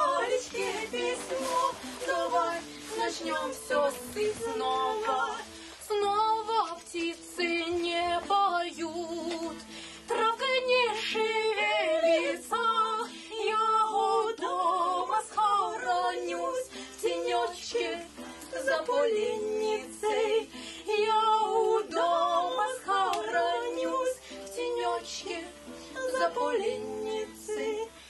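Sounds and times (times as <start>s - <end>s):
guitar accompaniment: 0.0s - 28.0s
woman singing: 0.0s - 28.0s.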